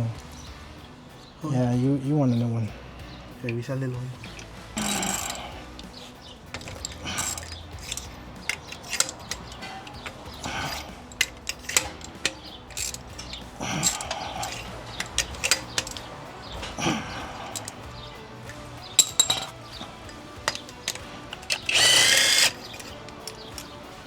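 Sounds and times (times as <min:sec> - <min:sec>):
metal tools clinking and scraping: 0:00.0 - 0:24.0.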